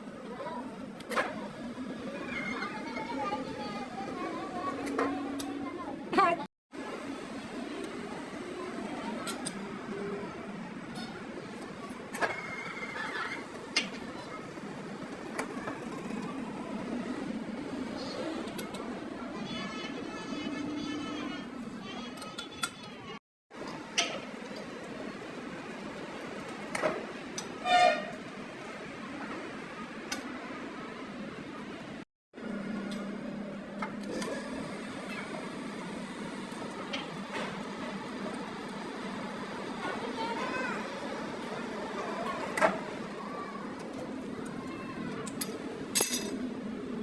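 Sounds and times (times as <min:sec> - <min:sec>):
steady background hum: 0:00.0 - 0:47.0
workshop background noise: 0:00.0 - 0:47.0.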